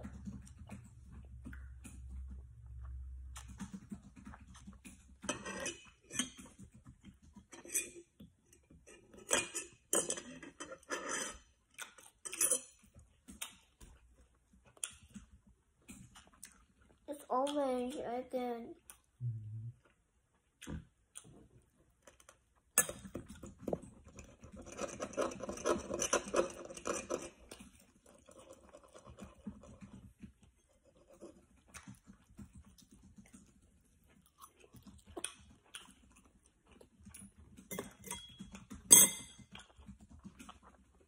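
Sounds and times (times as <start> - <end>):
child chewing: 0.0 - 19.2, 19.8 - 41.0.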